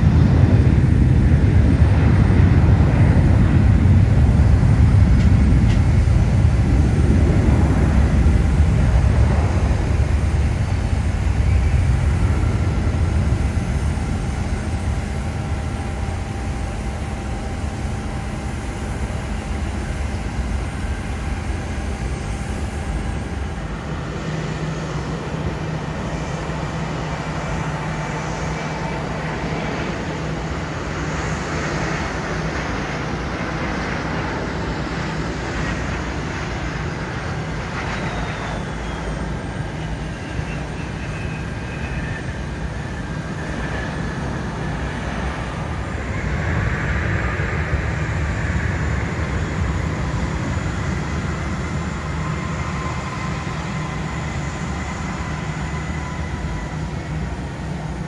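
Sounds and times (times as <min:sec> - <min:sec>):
jet engine rumble: 0:00.0 - 0:58.0
jet engine whine: 0:00.0 - 0:58.0.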